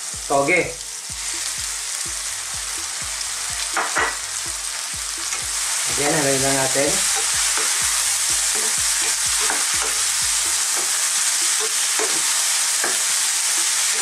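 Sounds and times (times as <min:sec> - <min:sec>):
food sizzling in a wok: 0:00.0 - 0:14.0
wooden spatula knocking on pan: 0:01.1 - 0:14.0.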